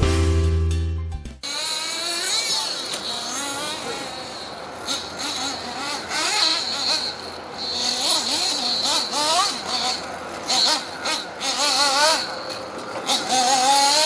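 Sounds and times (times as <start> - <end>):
model car engine revving: 1.4 - 14.0.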